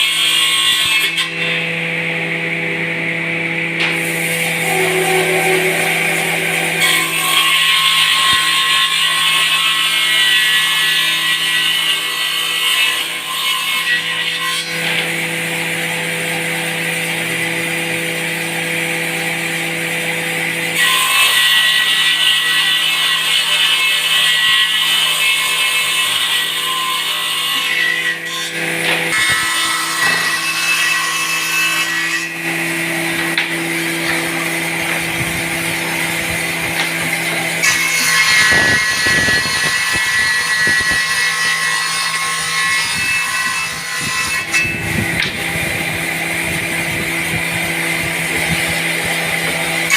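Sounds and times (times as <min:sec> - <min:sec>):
saw blade cutting wood: 0:00.0 - 0:02.3, 0:03.0 - 0:49.9
table saw running: 0:00.0 - 0:49.9.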